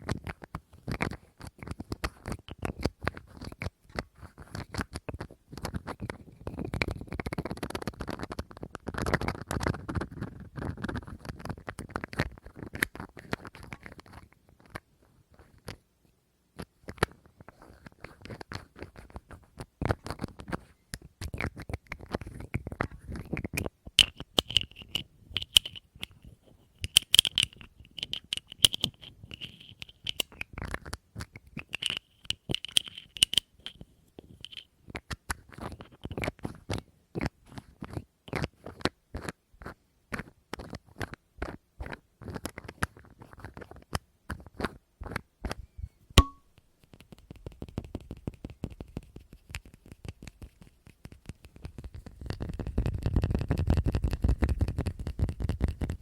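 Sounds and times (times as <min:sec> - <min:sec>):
tapping and scratching objects: 0:00.0 - 0:15.8, 0:16.6 - 0:45.6, 0:46.2 - 0:56.0.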